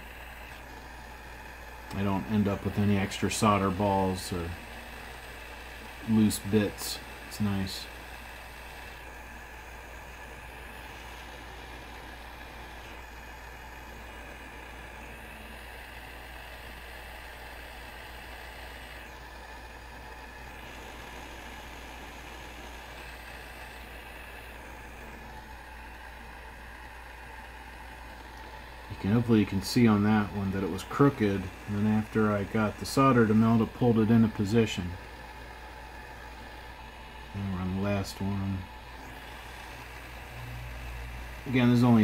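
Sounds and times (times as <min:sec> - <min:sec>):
hot air hissing from nozzle: 0:00.0 - 0:42.0
low steady hum: 0:00.0 - 0:42.0.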